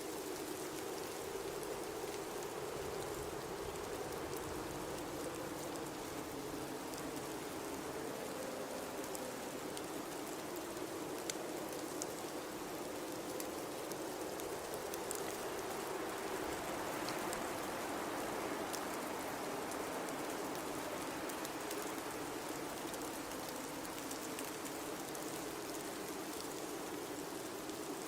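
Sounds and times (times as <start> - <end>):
faint ticks: 0.2 - 28.0.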